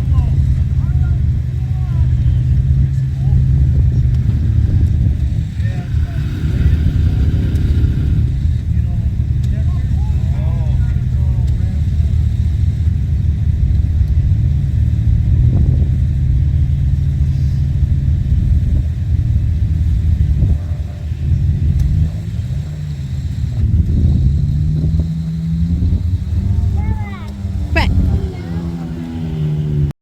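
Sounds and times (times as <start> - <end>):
quad bike engine droning: 0.0 - 30.0.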